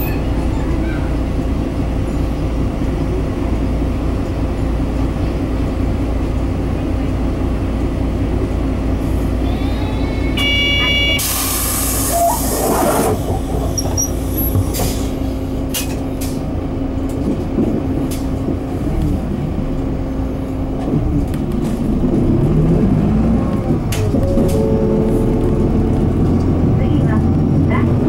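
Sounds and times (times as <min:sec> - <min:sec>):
bus diesel engine from inside: 0:00.0 - 0:28.0.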